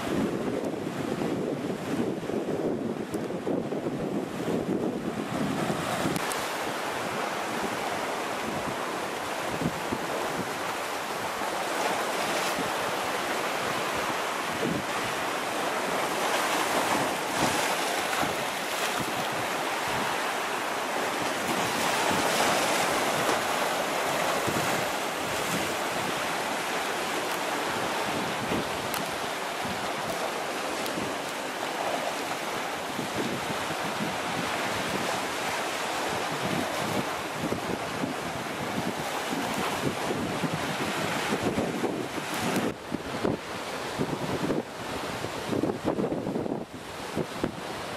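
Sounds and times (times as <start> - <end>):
surf breaking on rocks: 3.3 - 47.9.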